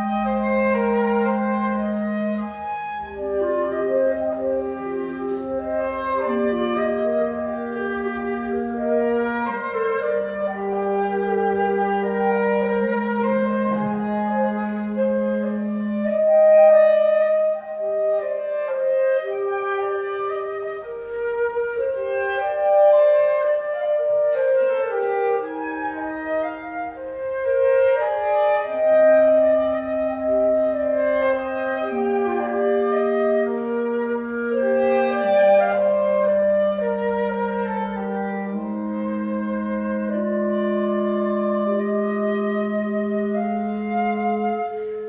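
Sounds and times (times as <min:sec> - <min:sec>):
woodwind trio playing chamber music: 0:00.0 - 0:45.0.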